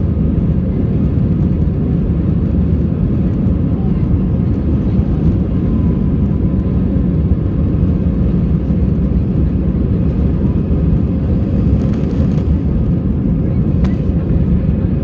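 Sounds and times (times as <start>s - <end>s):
faint whine: 0.0s - 15.0s
jet engines at takeoff thrust: 0.0s - 15.0s
runway rumble: 0.0s - 15.0s.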